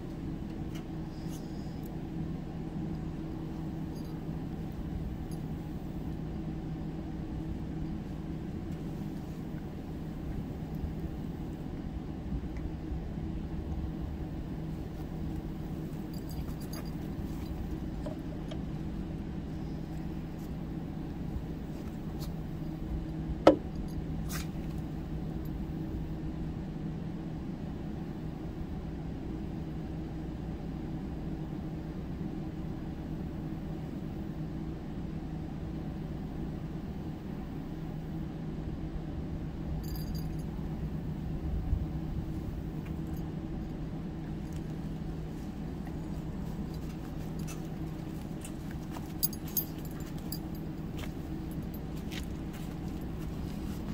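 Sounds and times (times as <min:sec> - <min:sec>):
steady low two-tone hum: 0:00.0 - 0:53.9.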